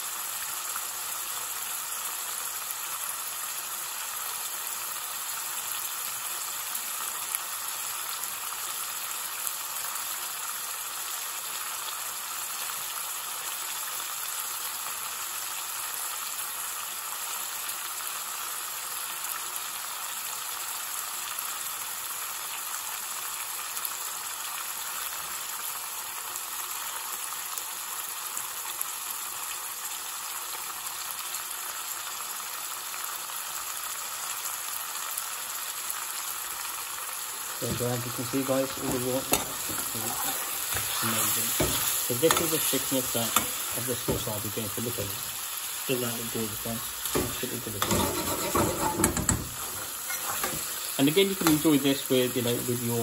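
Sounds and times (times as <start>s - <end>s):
sauce sizzling in a pan: 0.0s - 53.0s.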